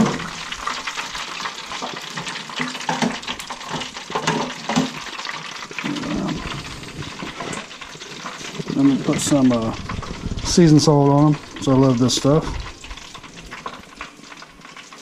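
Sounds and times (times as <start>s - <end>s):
oil sizzling in deep fryer: 0.0s - 15.0s.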